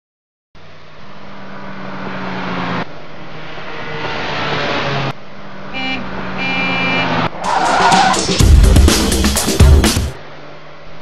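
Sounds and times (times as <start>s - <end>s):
car engine driving: 0.6s - 11.0s.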